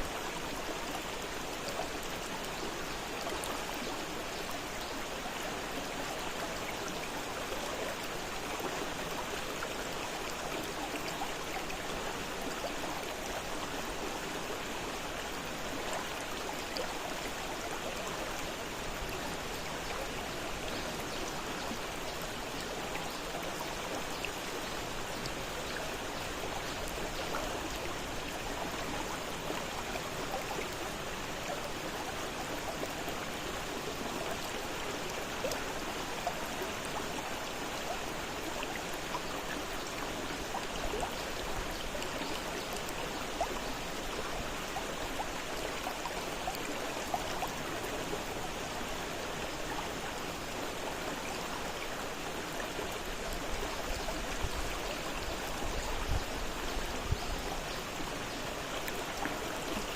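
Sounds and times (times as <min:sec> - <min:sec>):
river water rushing and splashing: 0:00.0 - 0:59.9.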